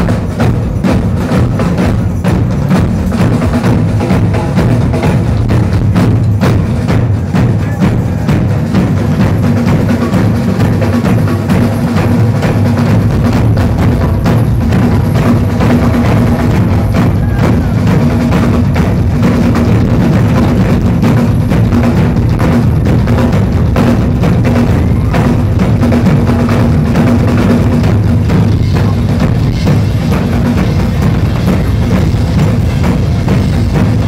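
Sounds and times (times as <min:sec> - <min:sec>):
drum ensemble pounding: 0:00.0 - 0:34.0.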